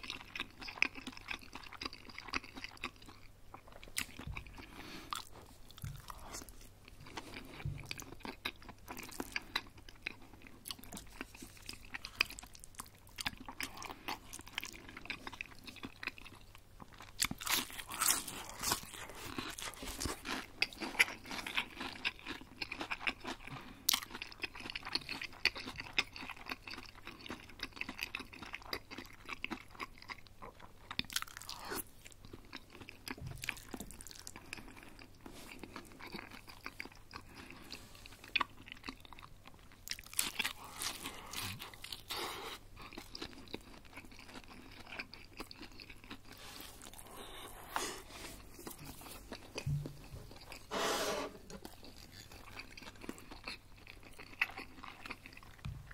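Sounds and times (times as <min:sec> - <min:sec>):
person chewing crispy food: 0:00.0 - 0:55.9.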